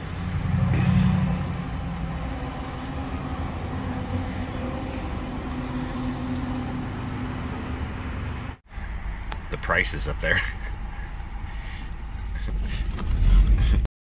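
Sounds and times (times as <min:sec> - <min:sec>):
low mechanical drone: 0:00.0 - 0:13.9.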